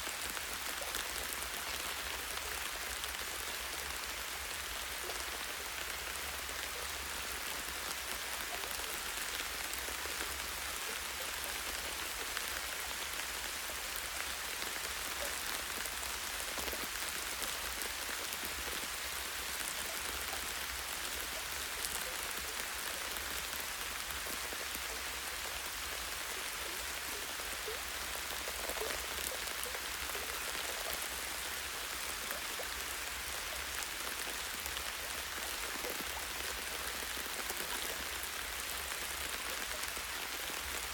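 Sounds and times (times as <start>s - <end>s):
light rain on leaves: 0.0s - 40.9s.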